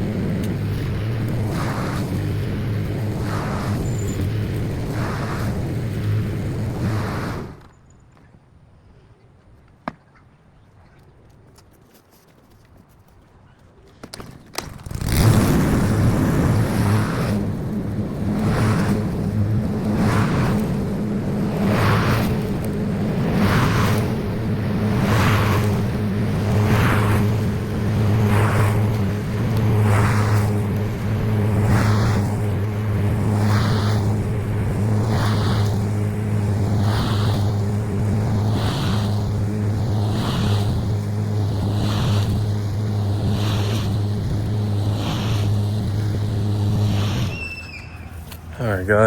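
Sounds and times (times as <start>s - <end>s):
mower swishing through wet grass: 0.0s - 7.6s, 14.8s - 49.0s
lawn mower engine running: 0.0s - 7.7s, 14.0s - 49.0s.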